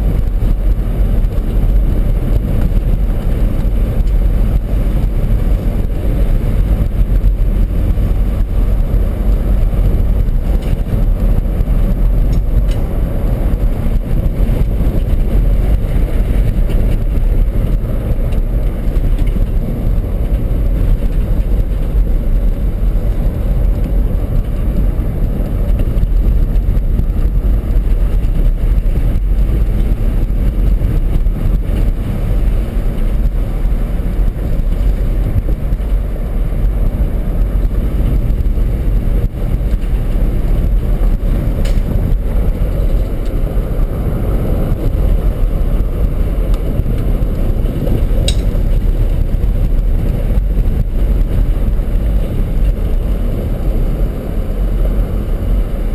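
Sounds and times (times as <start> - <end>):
engine and tyres rumbling: 0.0 - 55.9.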